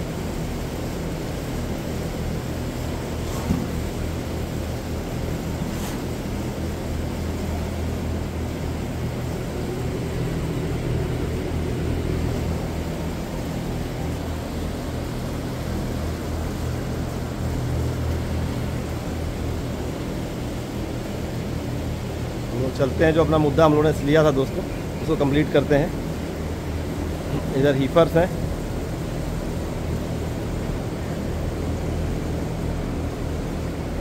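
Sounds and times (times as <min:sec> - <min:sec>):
large fans running: 0:00.0 - 0:34.0.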